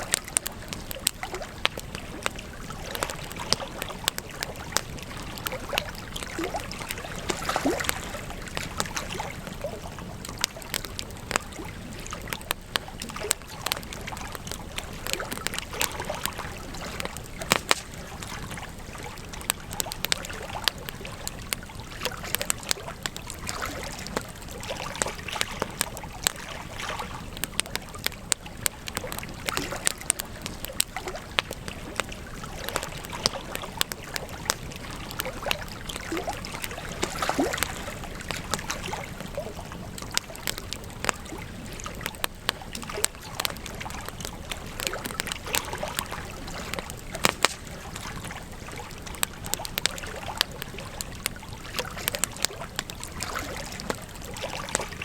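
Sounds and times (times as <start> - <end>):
campfire crackling: 0.0 - 55.0
sharp pops of burning wood: 0.0 - 55.0
steady fire hiss: 0.0 - 55.0.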